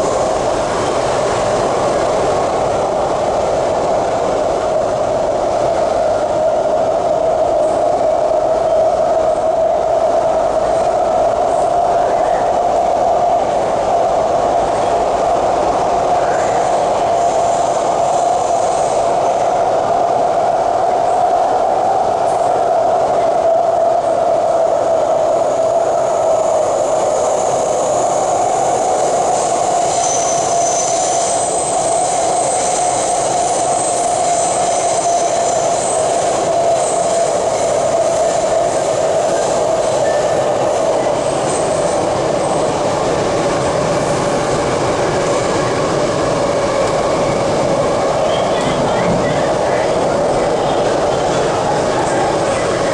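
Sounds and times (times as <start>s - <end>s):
metro car running noise: 0.0s - 52.9s.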